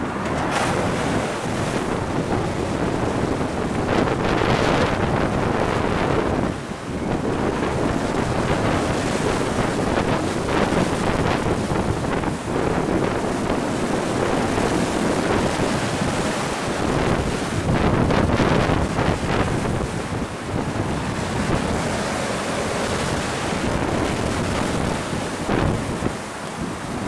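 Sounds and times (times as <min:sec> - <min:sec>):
water rushing across road: 0:00.0 - 0:27.0
waves crashing over sea wall: 0:00.0 - 0:27.0
wind buffeting microphone: 0:00.0 - 0:27.0.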